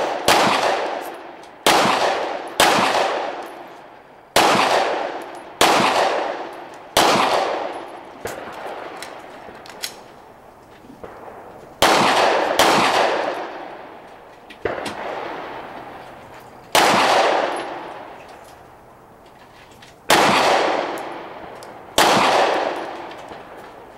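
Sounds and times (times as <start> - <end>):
pistol shots echoing: 0.0 - 10.1, 11.0 - 18.6, 20.0 - 23.9
faint sharp cracks: 4.6 - 23.9.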